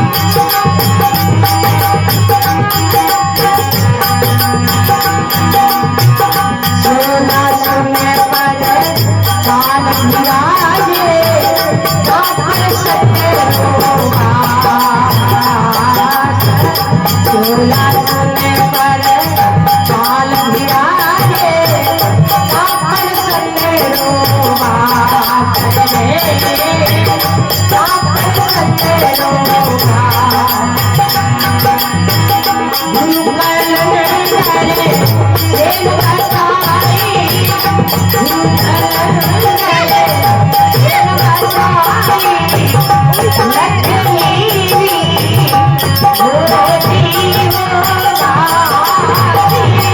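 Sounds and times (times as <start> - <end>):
fast rattling percussion beat: 0.0 - 49.9.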